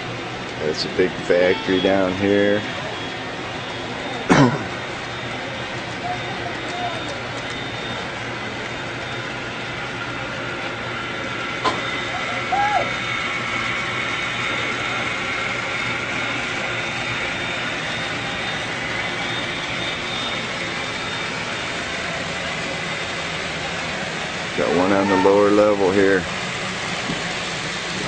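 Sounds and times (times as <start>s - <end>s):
model trains humming and whining: 0.0s - 28.0s.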